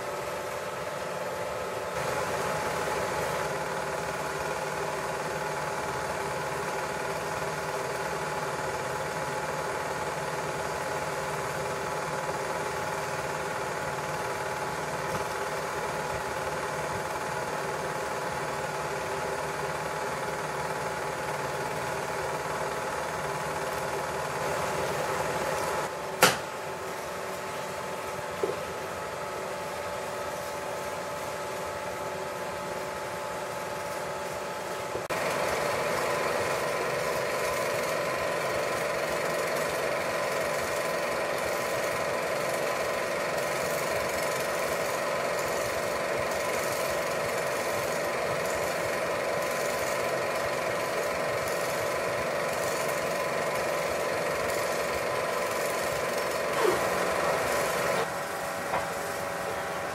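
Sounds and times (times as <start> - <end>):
film projector humming: 0.0 - 59.9.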